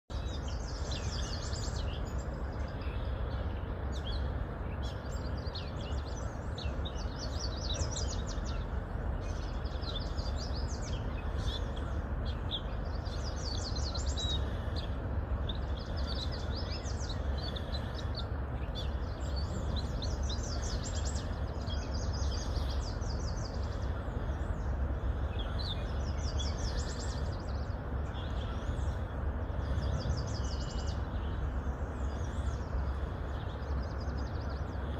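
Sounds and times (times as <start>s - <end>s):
background rumble and hiss: 0.1s - 34.9s
small birds chirping and trilling: 0.1s - 34.9s.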